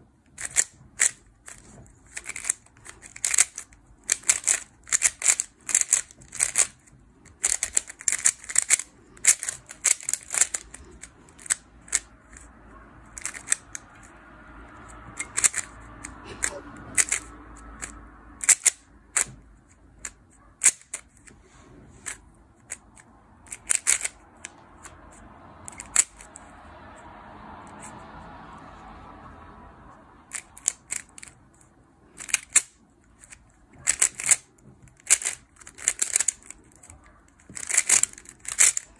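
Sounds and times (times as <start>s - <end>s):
puzzle cube clicking: 0.4s - 12.5s, 13.1s - 14.1s, 15.2s - 21.3s, 22.0s - 24.9s, 25.6s - 26.3s, 30.3s - 38.9s.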